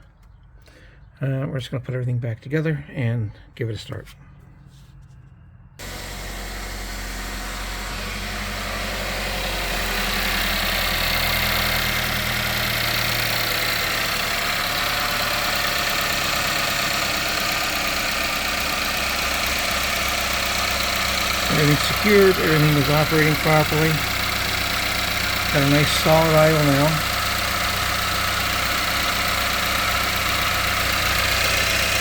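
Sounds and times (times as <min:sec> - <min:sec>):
car engine idling: 0:05.8 - 0:32.0.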